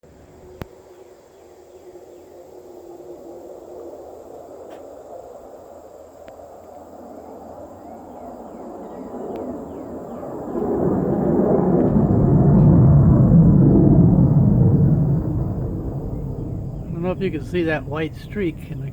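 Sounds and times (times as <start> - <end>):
jet aircraft rumble overhead: 0.0 - 18.9.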